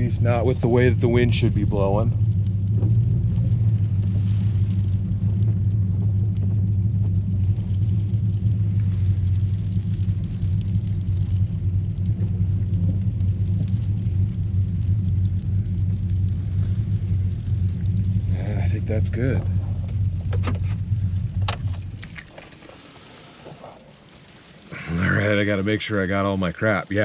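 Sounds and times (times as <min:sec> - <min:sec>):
pickup engine humming from cab: 0:00.0 - 0:26.8.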